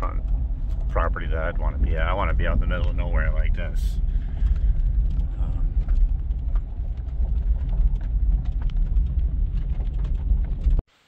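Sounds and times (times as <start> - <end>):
knocks and rattles from bumps: 0.0 - 10.8
vehicle engine and road rumble: 0.0 - 11.0.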